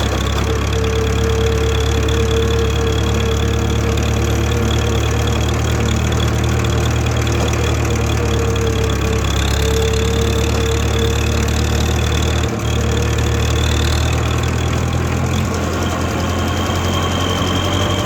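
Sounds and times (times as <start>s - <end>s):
engine whine: 0.0s - 18.0s
tractor engine running: 0.0s - 18.0s.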